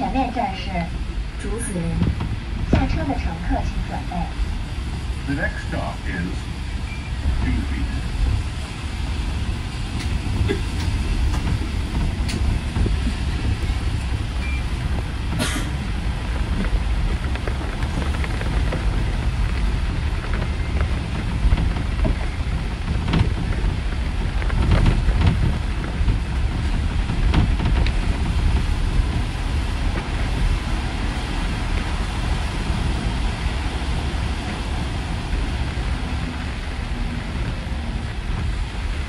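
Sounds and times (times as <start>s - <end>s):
bus rumbling on wet road: 0.0s - 39.0s.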